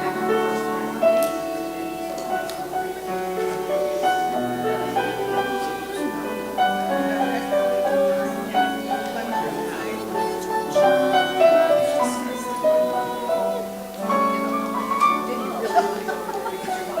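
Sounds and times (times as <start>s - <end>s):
slow keyboard music: 0.0s - 17.0s.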